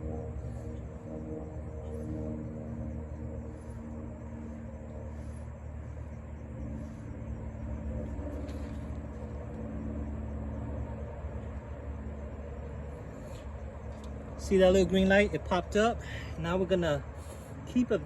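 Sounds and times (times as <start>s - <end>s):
engine-like rumble: 0.0s - 18.0s.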